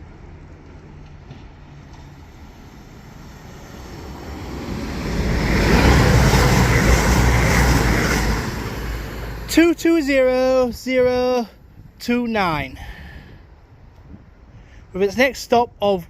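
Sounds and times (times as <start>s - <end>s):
train passing: 0.0s - 15.5s.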